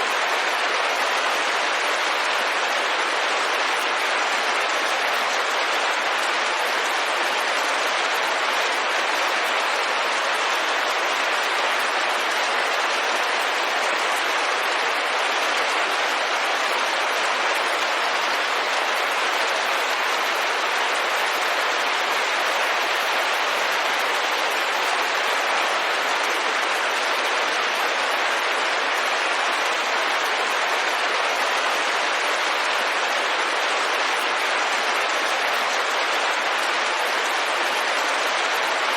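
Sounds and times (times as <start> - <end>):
rain falling on a window: 0.0 - 38.9.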